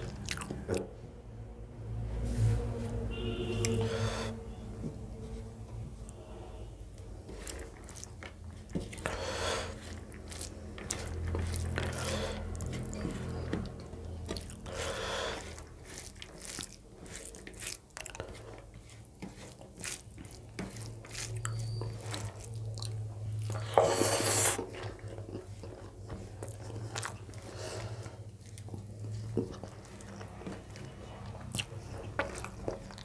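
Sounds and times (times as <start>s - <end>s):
person chewing food: 0.0s - 1.0s, 3.4s - 33.0s.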